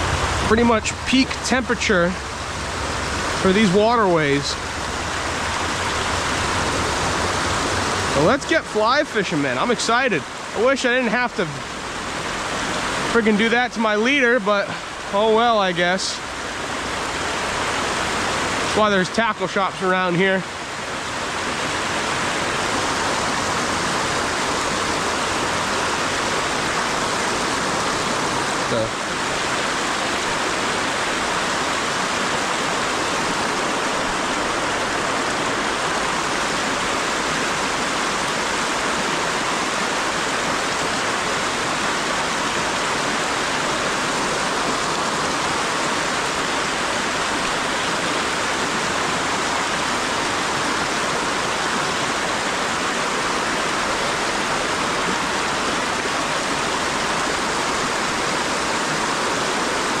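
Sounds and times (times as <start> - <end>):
stream rushing over rocks: 0.0 - 60.0.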